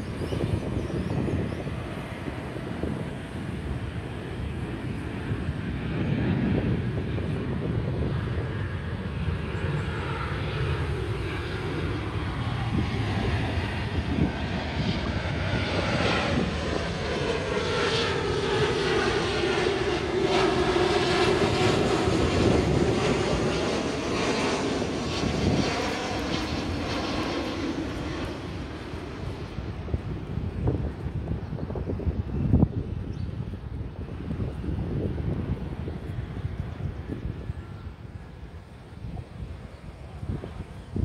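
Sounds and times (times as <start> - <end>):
jet airliner passing overhead: 0.0 - 41.0.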